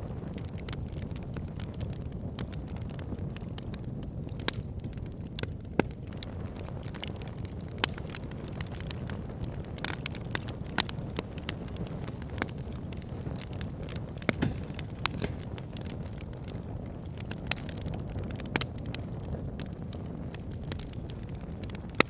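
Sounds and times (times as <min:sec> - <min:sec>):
burning wood crackling and popping: 0:00.0 - 0:22.0
wood fire rumbling: 0:00.0 - 0:22.0.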